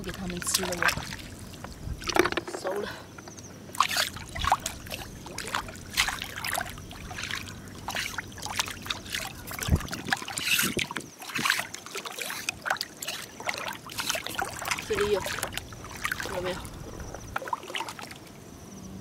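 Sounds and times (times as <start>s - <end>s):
seawater sloshing and splashing: 0.0s - 18.5s.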